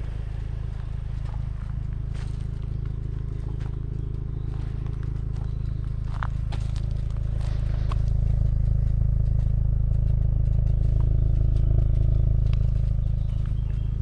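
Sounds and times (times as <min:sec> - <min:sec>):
car engine and road noise hum: 0:00.0 - 0:14.0.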